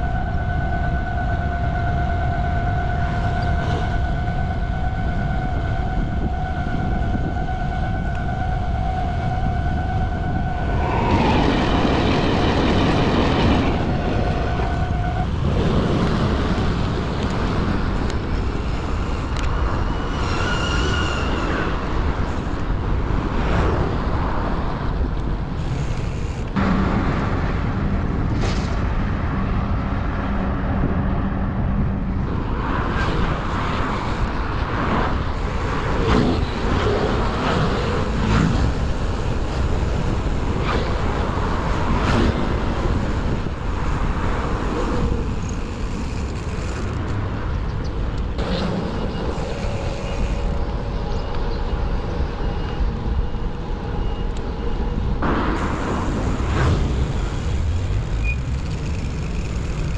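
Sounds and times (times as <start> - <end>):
cars and scooters passing: 0.0 - 59.9
wind rumbling on microphone: 0.0 - 59.9.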